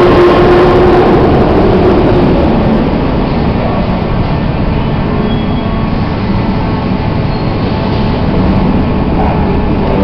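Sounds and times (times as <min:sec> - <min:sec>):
underground train rumbling: 0:00.0 - 0:10.0.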